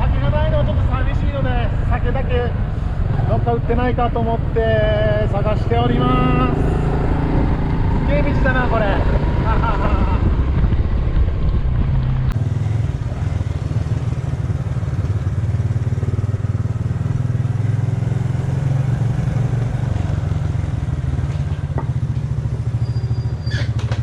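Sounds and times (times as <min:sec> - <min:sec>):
motorcycle engine running: 0:04.1 - 0:24.0.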